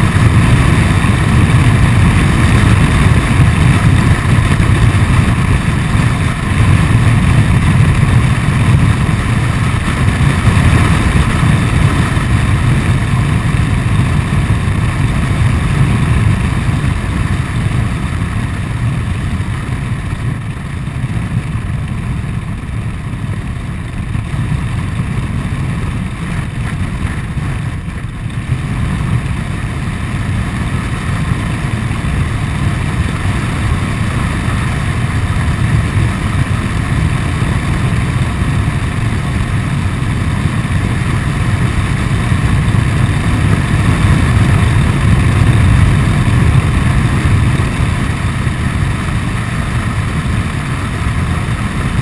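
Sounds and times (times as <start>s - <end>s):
scooter engine running: 0.0s - 52.0s
wind buffeting microphone: 0.0s - 52.0s.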